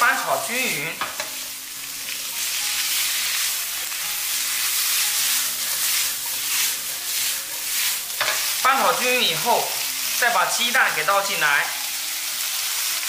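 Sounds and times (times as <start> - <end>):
vegetables sizzling in wok: 0.0 - 13.0.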